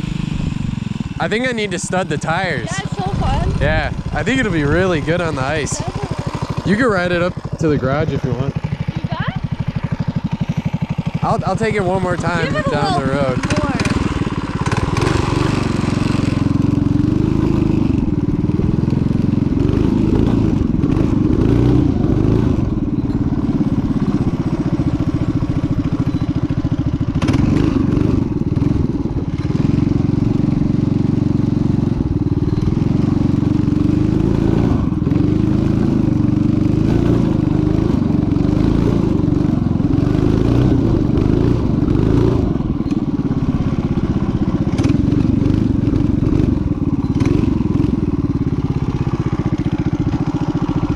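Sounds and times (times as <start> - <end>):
minibike engine revving: 0.0 - 50.9.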